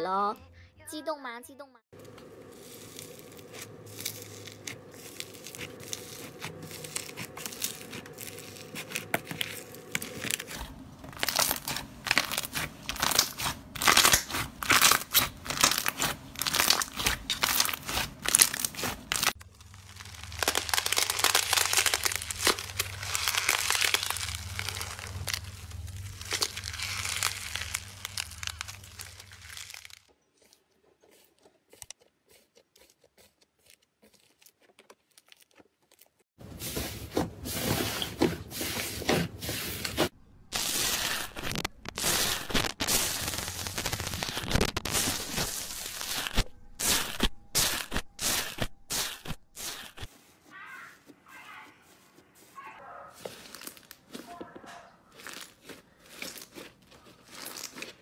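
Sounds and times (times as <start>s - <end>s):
crunchy slime crackling: 2.0s - 36.3s, 40.5s - 58.0s.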